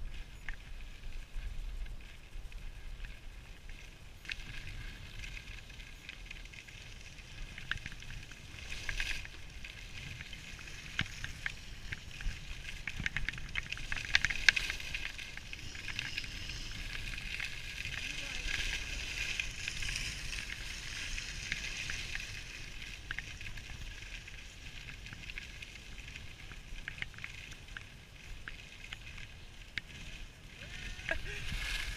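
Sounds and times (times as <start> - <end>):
crackling ticks of snow: 0.0 - 31.9
skis scraping on packed snow: 0.0 - 31.9
wind rumble on microphone: 0.0 - 31.9.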